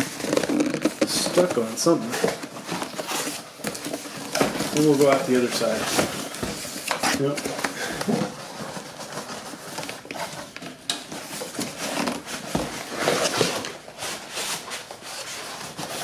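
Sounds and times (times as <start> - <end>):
cardboard and foam rustling: 0.0 - 16.0.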